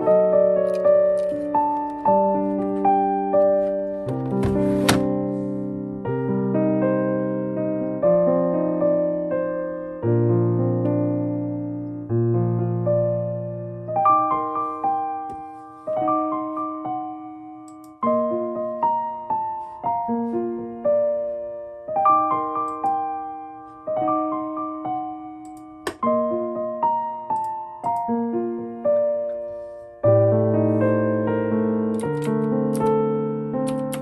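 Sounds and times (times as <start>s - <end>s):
gentle piano melody: 0.0s - 34.0s.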